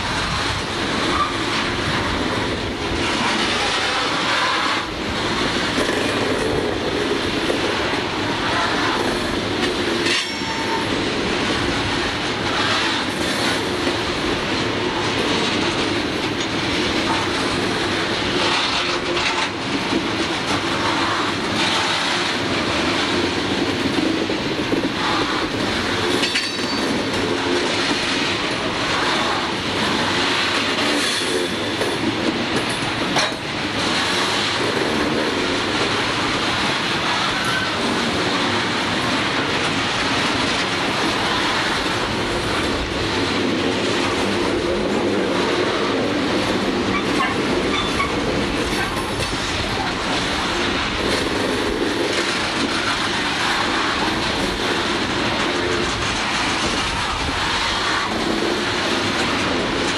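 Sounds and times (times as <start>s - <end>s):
train wheels rumbling over rail joints: 0.0s - 59.9s.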